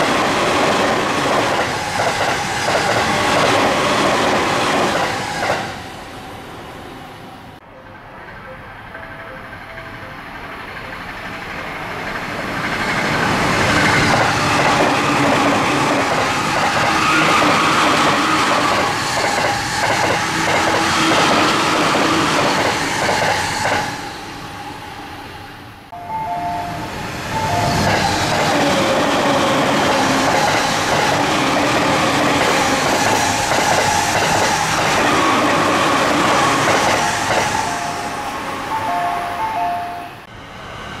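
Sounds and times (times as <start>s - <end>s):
trains passing at speed: 0.0s - 41.0s.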